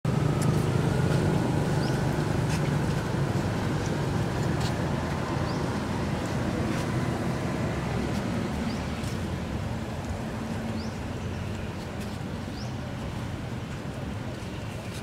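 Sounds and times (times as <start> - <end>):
traffic rumble: 0.1 - 15.0.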